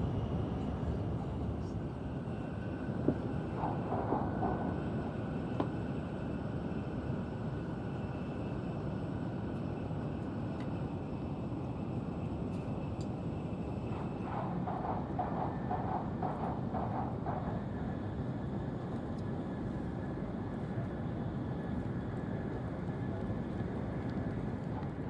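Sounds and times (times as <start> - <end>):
train interior rumble and hiss: 0.0 - 25.0.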